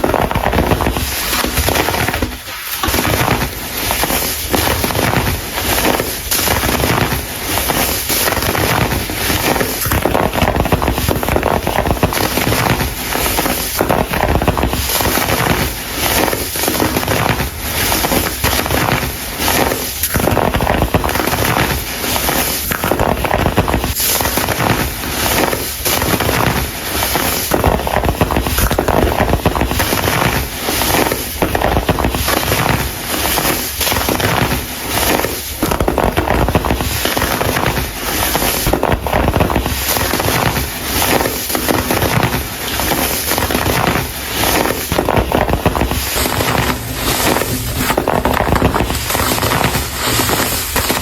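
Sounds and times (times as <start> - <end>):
crumble crunching: 0.0 - 51.0.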